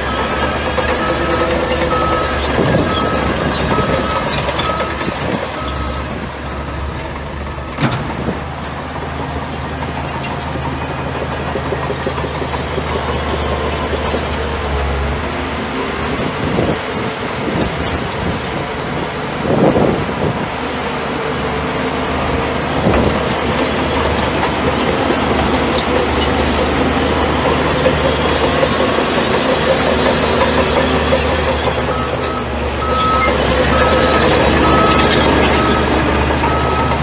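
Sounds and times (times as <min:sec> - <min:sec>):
bulldozer diesel engine: 0:00.0 - 0:37.0.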